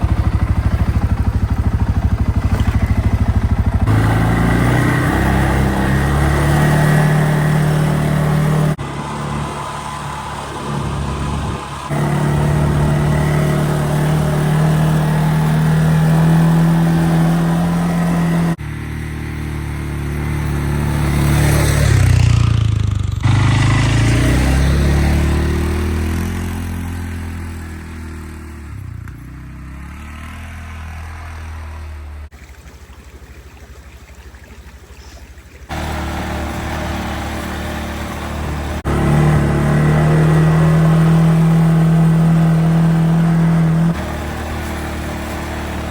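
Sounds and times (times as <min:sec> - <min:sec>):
vehicle revving and passing: 0:00.0 - 0:32.3, 0:35.7 - 0:45.9
vehicle engine running: 0:00.0 - 0:32.8, 0:35.7 - 0:45.9.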